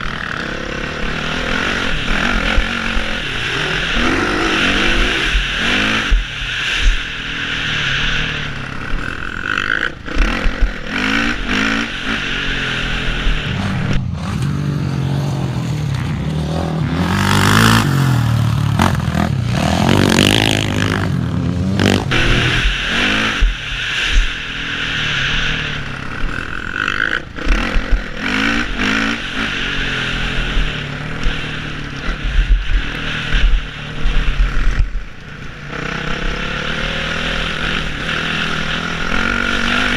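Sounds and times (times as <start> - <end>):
wind rushing over microphone: 0.0 - 14.4, 16.6 - 39.9
motocross engine revving: 0.0 - 39.9.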